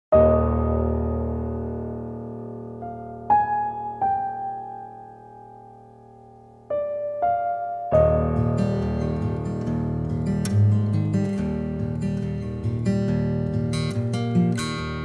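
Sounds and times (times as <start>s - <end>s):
slow piano notes: 0.1s - 15.0s.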